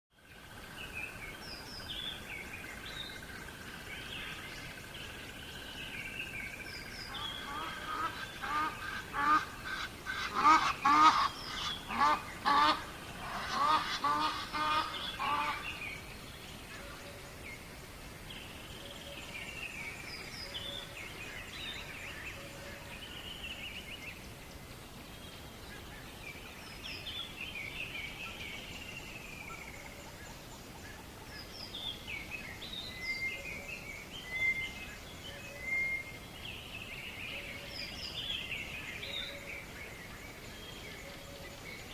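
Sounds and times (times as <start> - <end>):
faint steady hiss: 0.1 - 41.9
small birds chirping: 0.2 - 41.9.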